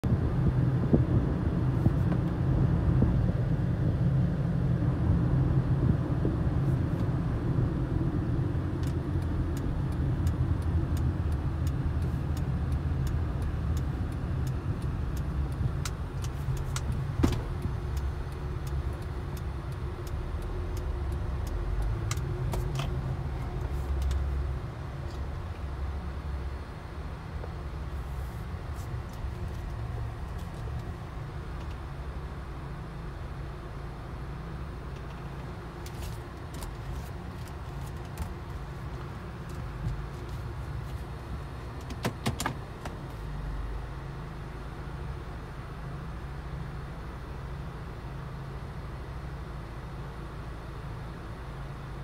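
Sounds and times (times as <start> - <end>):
car cabin road and engine rumble: 0.0 - 52.0.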